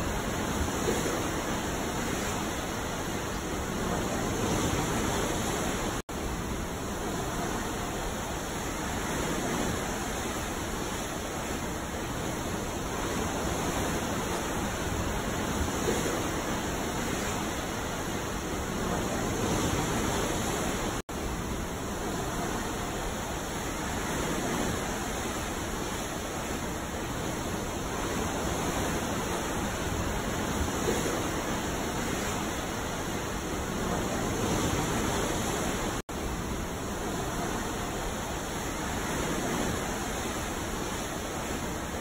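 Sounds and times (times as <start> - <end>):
ocean waves washing: 0.0 - 42.0.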